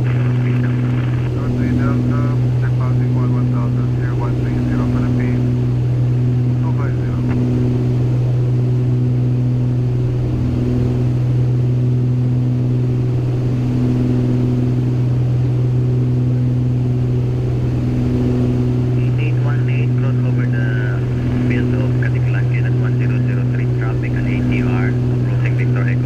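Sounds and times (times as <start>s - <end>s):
aircraft cabin engine drone: 0.0s - 26.0s.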